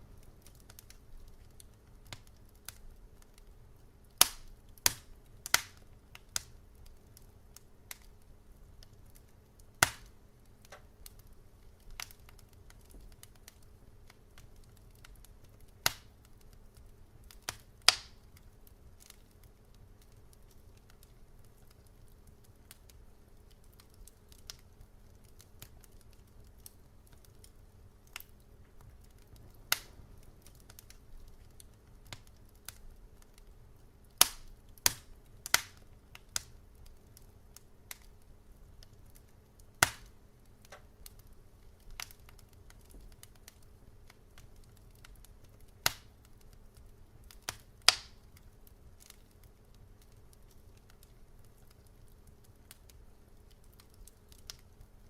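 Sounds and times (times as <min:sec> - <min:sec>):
faint low hum: 0:00.0 - 0:55.0
wood fire crackling: 0:00.0 - 0:55.0.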